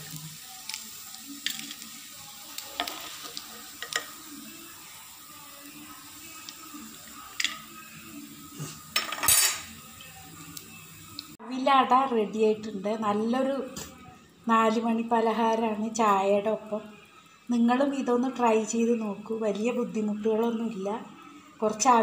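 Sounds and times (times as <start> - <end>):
oil sizzling: 0.0 - 20.8.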